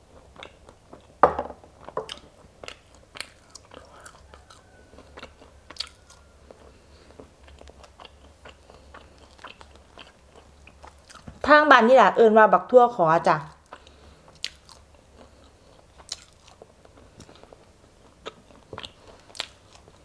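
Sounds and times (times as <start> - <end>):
chewing with crunches and clicks: 0.0 - 1.2, 1.8 - 11.4, 13.4 - 20.0.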